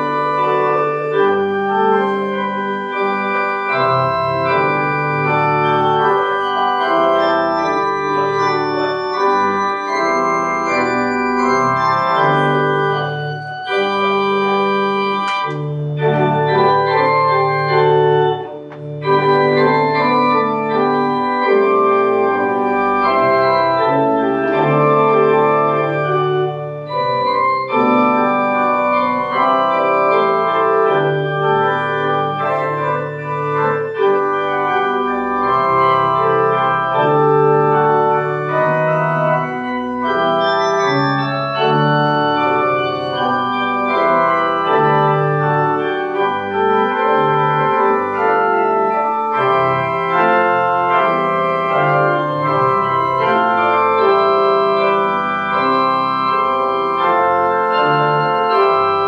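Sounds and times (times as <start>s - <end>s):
church organ playing chords: 0.0s - 59.0s.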